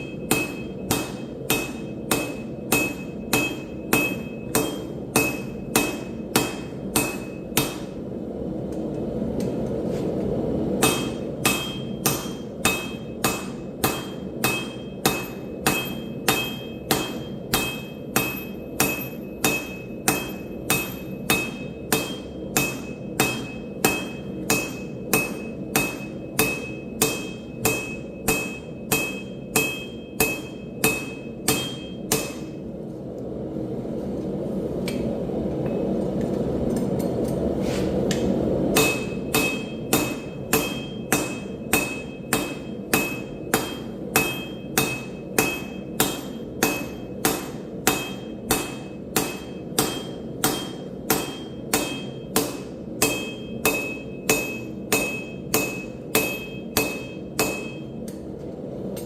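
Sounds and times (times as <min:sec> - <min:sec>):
hammer ringing on anvil: 0:00.0 - 0:08.0, 0:10.8 - 0:32.6, 0:38.7 - 0:58.0.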